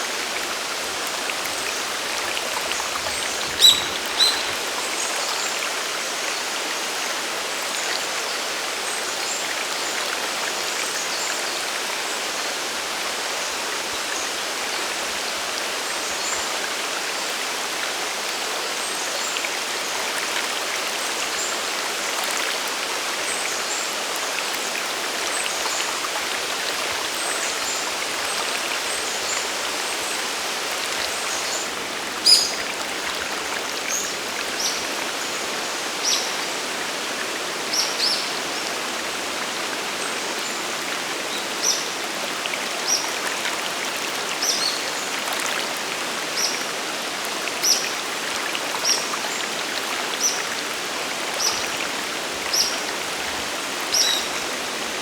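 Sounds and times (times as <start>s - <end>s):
stream and waterfall rushing: 0.0s - 55.0s.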